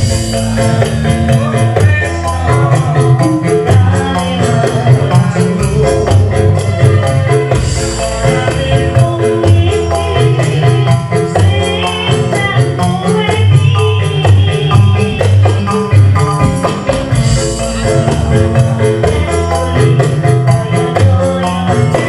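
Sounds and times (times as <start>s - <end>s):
fast percussion beat: 0.0s - 22.0s
live band music: 0.0s - 22.0s.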